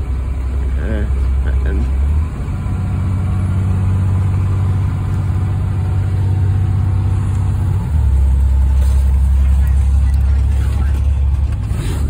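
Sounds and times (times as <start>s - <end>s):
bus engine humming: 0.0s - 12.0s.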